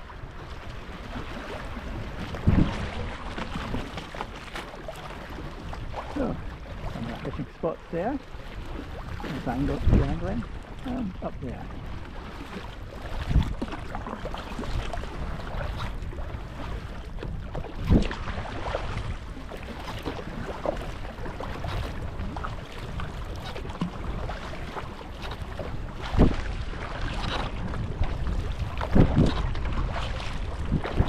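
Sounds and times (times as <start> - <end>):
paddle blades splashing: 0.0 - 31.0
water washing against hull: 0.0 - 31.0
wind rumbling on microphone: 0.0 - 31.0.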